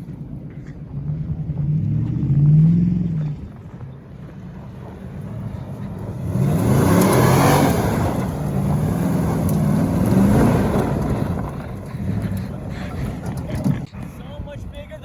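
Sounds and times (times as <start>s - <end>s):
vehicle engine revving: 0.0s - 13.9s.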